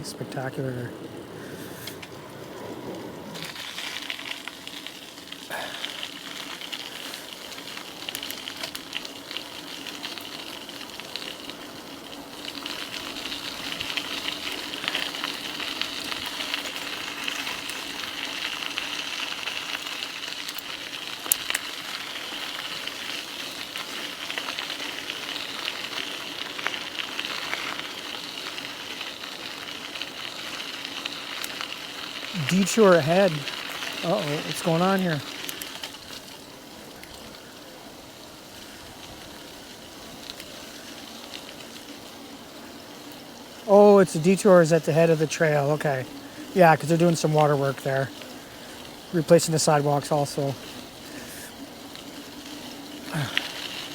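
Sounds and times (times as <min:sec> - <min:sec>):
bicycle tyres hissing on trail: 0:00.0 - 0:53.9.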